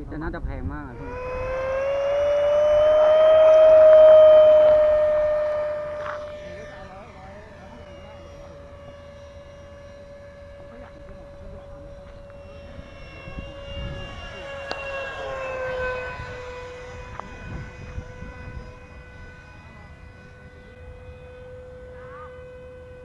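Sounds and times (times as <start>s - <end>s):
model jet engine whining: 0.0s - 23.0s.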